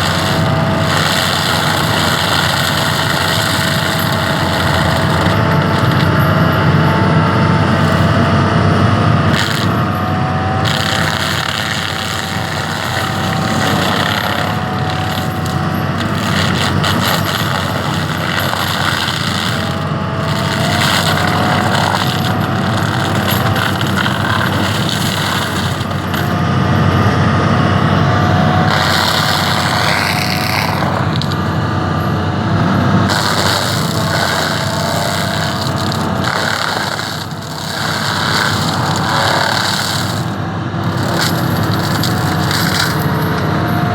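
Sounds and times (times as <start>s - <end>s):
excavator engine running: 0.0s - 43.9s
mulcher rotor shredding wood: 0.0s - 43.9s.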